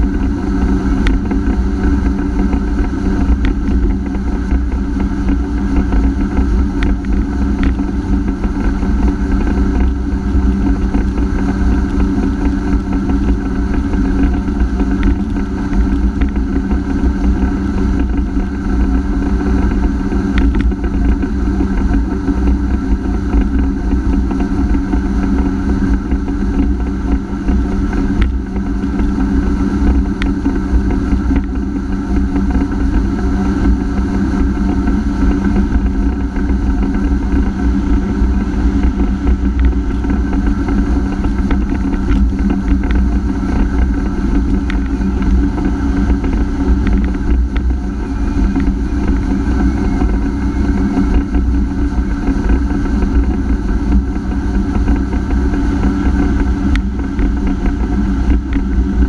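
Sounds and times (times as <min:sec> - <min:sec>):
watercraft engine running: 0:00.0 - 0:59.0.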